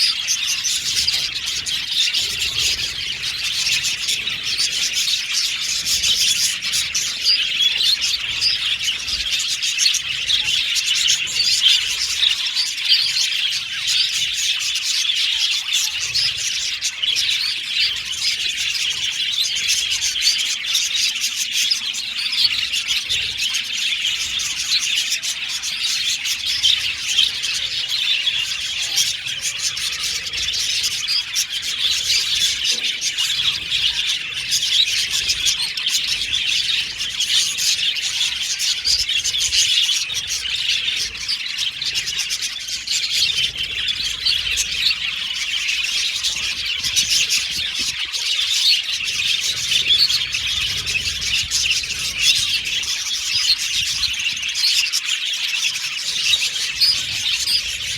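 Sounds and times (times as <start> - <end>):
budgerigars chirping and warbling: 0.0 - 57.9.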